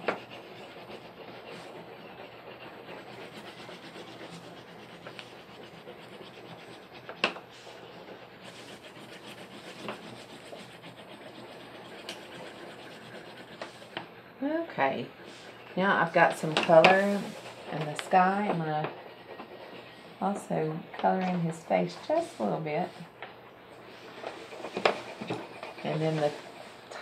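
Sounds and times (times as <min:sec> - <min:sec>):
crayon scratching on paper: 0:00.0 - 0:14.0, 0:15.2 - 0:20.0, 0:24.0 - 0:26.9.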